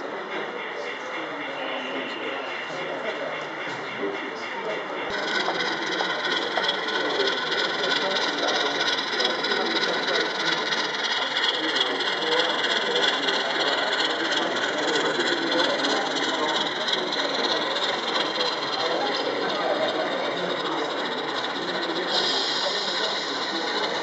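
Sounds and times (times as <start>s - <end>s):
crowd chatter: 0.0s - 24.0s.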